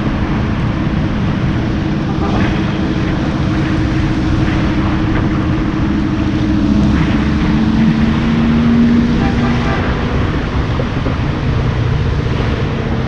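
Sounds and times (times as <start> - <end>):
car engine running: 0.0 - 13.0
road and wind rumble: 0.0 - 13.0.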